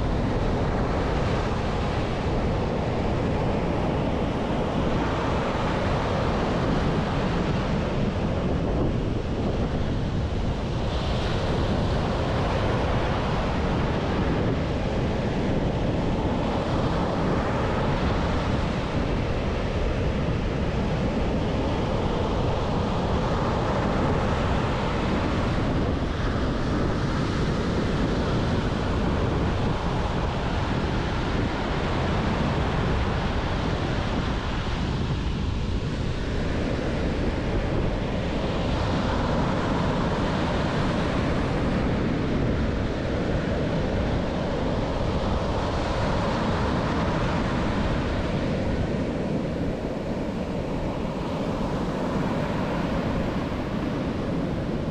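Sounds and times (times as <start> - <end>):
ocean surf breaking on beach: 0.0 - 54.9.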